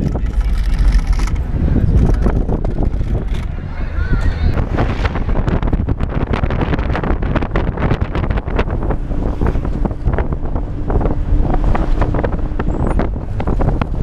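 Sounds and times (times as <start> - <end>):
engine and road rumble: 0.0 - 14.0
vehicle rattles and knocks: 0.0 - 14.0
wind buffeting microphone: 0.0 - 14.0.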